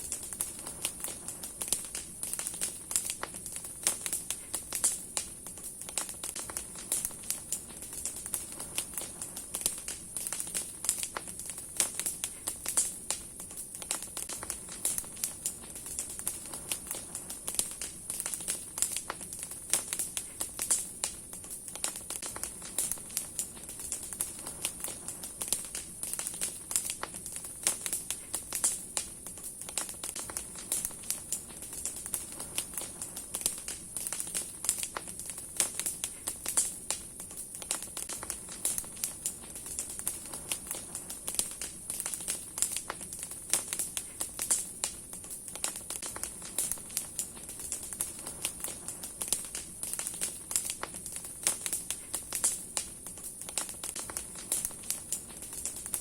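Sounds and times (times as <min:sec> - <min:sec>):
campfire crackling and popping: 0:00.0 - 0:56.0
fire hissing: 0:00.0 - 0:56.0.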